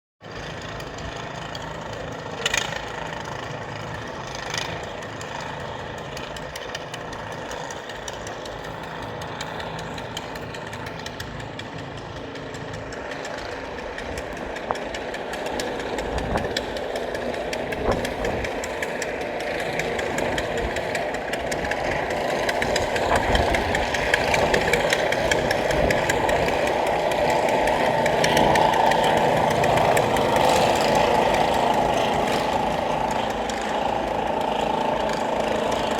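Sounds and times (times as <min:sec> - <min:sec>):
engine running: 0:00.2 - 0:35.9.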